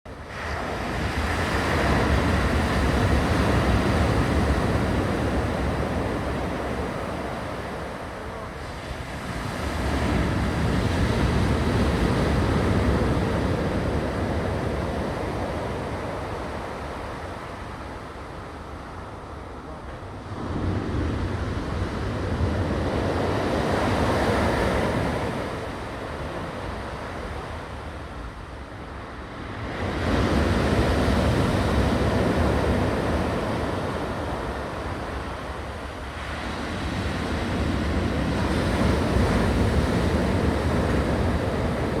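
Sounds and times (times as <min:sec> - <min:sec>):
sea waves breaking: 0:00.1 - 0:42.0
wind rumble on microphone: 0:00.1 - 0:42.0.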